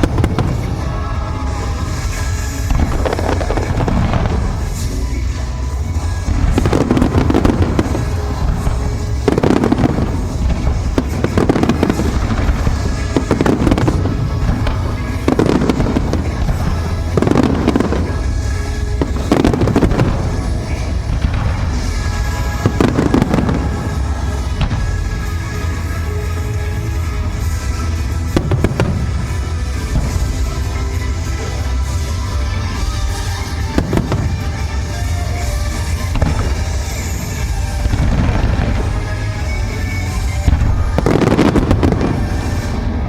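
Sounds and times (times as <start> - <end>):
fireworks bursting with crackle: 0.0 - 43.0
music with held tones: 0.0 - 43.0.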